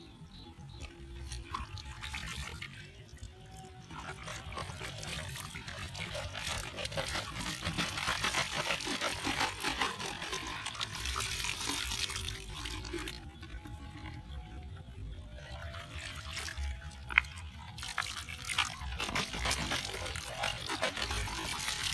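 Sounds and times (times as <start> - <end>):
water splashing from plastic bottle: 0.8 - 14.4, 15.4 - 21.9.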